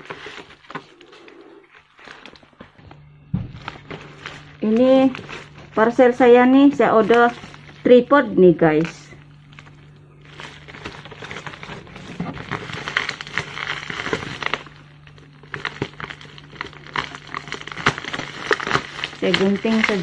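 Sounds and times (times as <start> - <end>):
bubble wrap crinkling: 0.0 - 20.0
steady low hum: 0.0 - 20.0.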